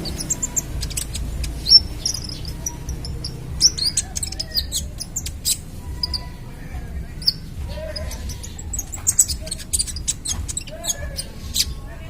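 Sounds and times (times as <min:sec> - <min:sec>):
sunbird chirping: 0:00.0 - 0:12.0.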